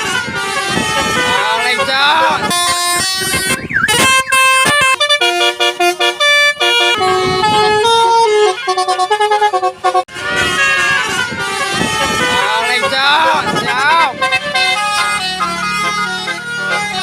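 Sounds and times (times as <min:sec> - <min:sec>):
musical car horn playing a tune: 0:00.0 - 0:17.0.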